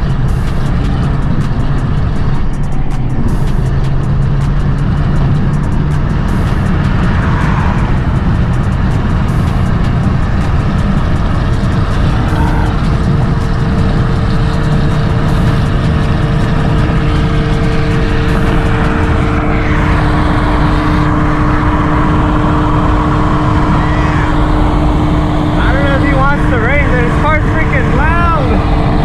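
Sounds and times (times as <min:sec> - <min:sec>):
car engine drone: 0:00.0 - 0:29.0
road and wind noise: 0:00.0 - 0:29.0.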